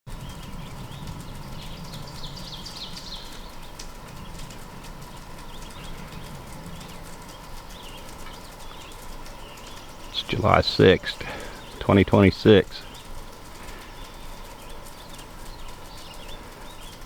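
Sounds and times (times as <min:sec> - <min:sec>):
faint scattered clicks: 0:00.1 - 0:17.0
songbird singing falling notes: 0:00.1 - 0:17.0.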